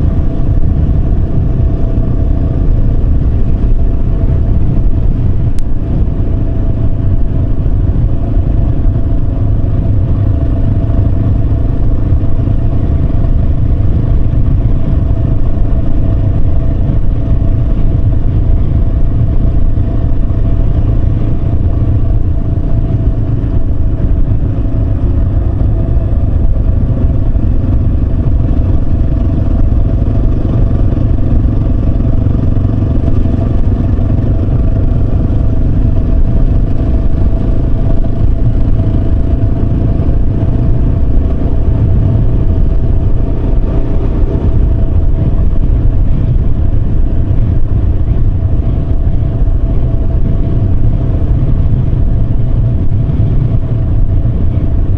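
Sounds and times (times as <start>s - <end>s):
motorcycle engine cruising: 0.0s - 54.9s
wind and road noise rumble: 0.0s - 54.9s.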